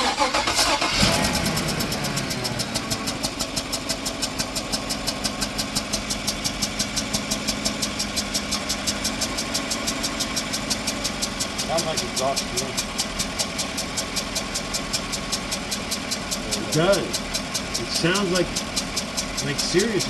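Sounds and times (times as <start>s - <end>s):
pickup engine idling: 0.0s - 20.0s
rapid even engine ticking: 0.0s - 20.0s.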